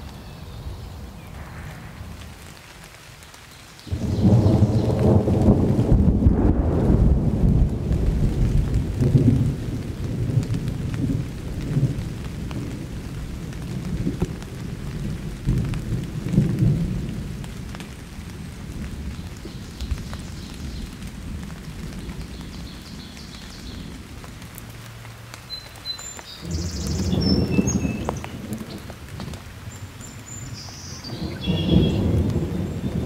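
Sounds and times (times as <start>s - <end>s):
steady rain: 0.0s - 33.0s
thunder rumbling: 0.6s - 2.9s, 3.9s - 23.1s, 26.4s - 33.0s.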